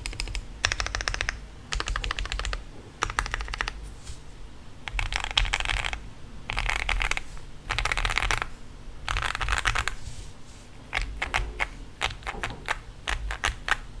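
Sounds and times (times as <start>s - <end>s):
mechanical keyboard typing: 0.0s - 3.8s, 4.8s - 10.0s, 10.9s - 14.0s.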